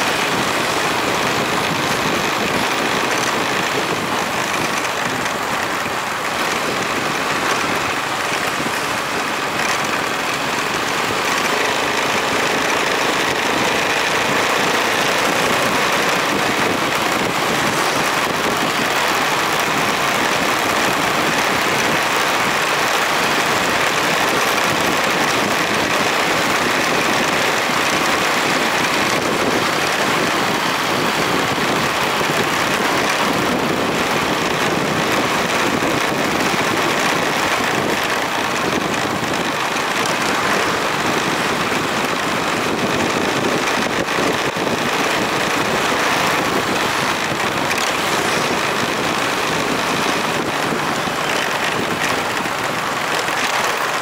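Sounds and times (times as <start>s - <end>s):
motorbike engine running: 0.0s - 54.0s
wind and road noise: 0.0s - 54.0s.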